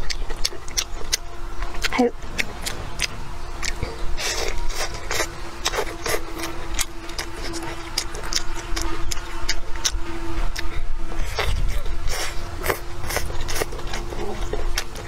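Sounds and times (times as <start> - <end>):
steady low hum: 0.0 - 15.0
wet chewing and mouth smacks: 0.0 - 15.0.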